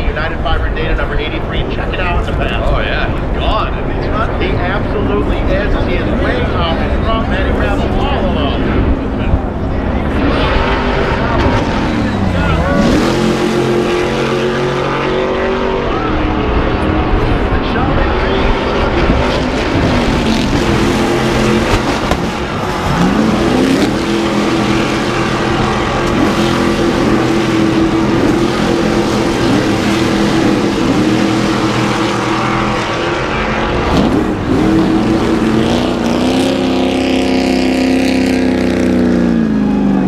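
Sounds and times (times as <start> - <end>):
race truck engines passing: 0.0 - 40.0.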